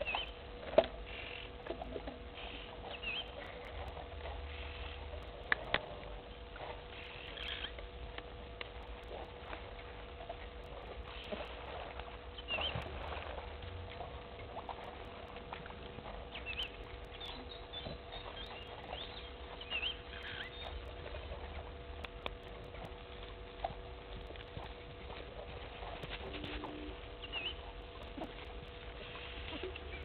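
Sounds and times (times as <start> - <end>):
faint steady hum: 0.0 - 30.0
low rumble: 1.7 - 30.0.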